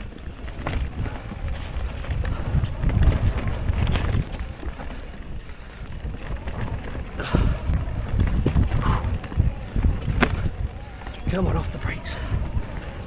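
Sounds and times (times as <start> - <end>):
bike knocks and rattles: 0.0 - 11.4
wind buffeting microphone: 0.0 - 13.0.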